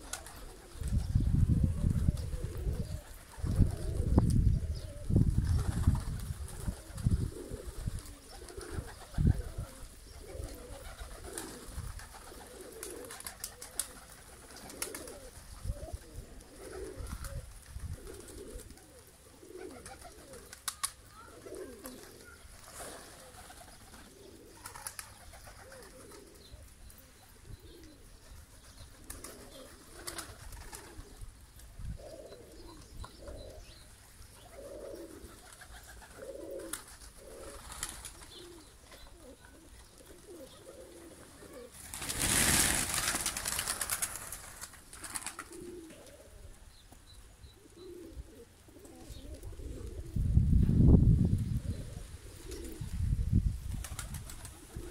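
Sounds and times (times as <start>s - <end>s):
pigeons cooing: 0.0s - 50.6s, 51.3s - 54.9s.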